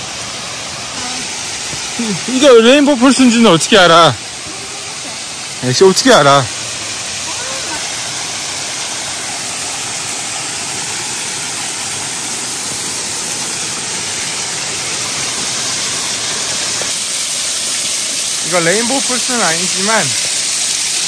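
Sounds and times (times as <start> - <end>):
water rushing down waterfall: 0.0 - 21.0.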